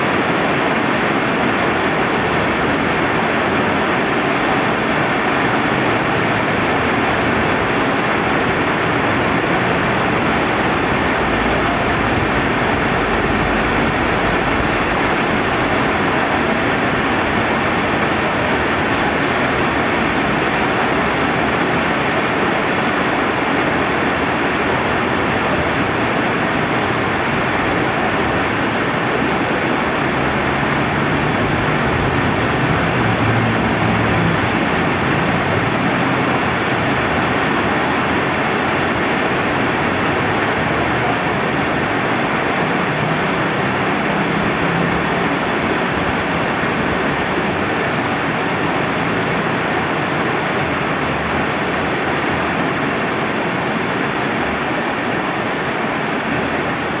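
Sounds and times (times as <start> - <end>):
running water: 0.0 - 57.0
steady rain: 0.0 - 57.0.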